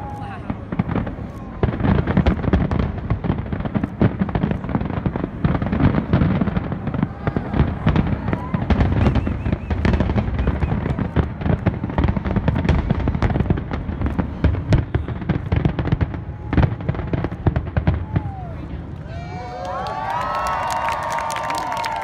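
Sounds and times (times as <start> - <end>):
firework shells booming and crackling: 0.0 - 19.0.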